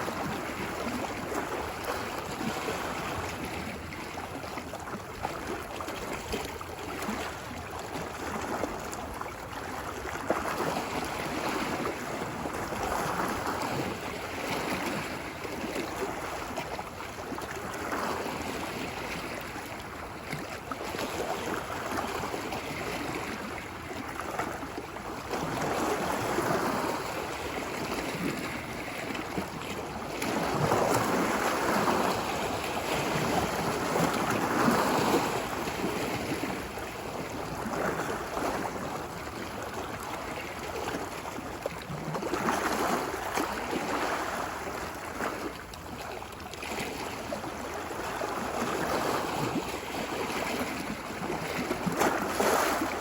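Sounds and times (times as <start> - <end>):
ocean waves washing onto beach: 0.0 - 53.0.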